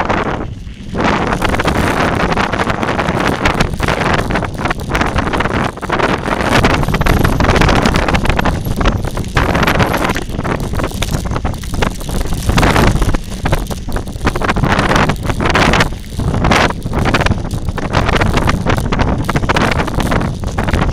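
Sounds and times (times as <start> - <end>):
tyres crunching on dirt trail: 0.0 - 20.9
wind buffeting microphone: 0.0 - 20.9.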